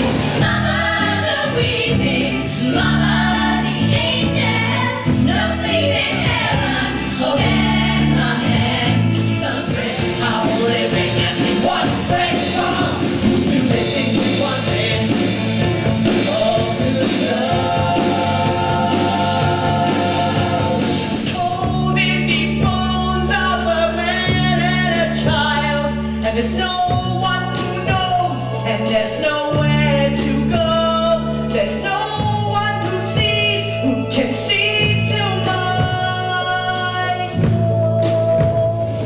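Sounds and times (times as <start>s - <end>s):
group of singers: 0.0s - 39.0s
live band playing: 0.0s - 39.0s.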